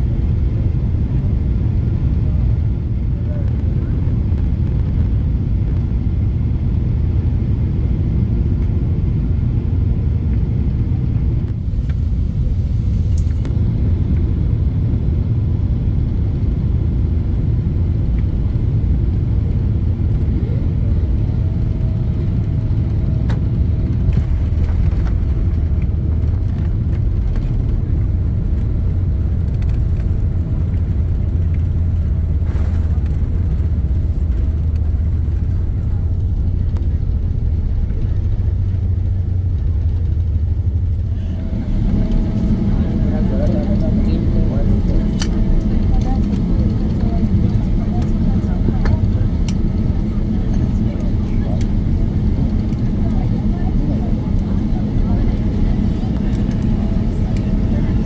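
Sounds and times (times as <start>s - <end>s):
vehicle low rumble: 0.0s - 58.0s.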